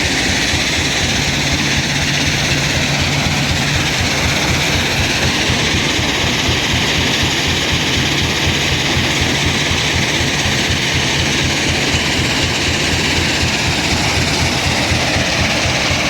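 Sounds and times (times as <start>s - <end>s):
heavy machinery running: 0.0s - 16.0s.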